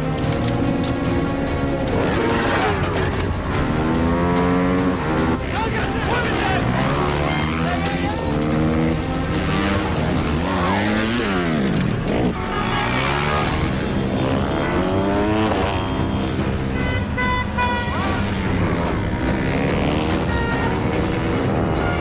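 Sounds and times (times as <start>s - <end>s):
motorcycle engine revving: 0.0s - 5.5s, 6.3s - 16.8s, 18.0s - 22.0s
film score music: 0.0s - 22.0s.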